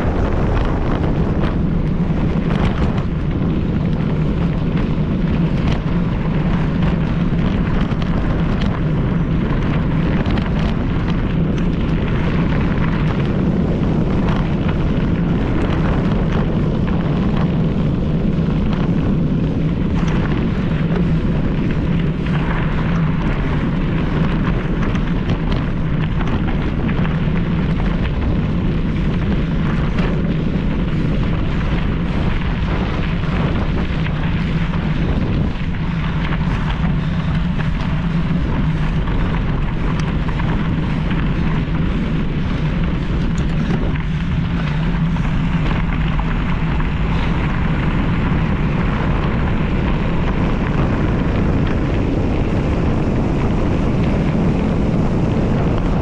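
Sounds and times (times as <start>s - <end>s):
bike rattling and clicking: 0.0s - 56.0s
wind buffeting microphone: 0.0s - 56.0s.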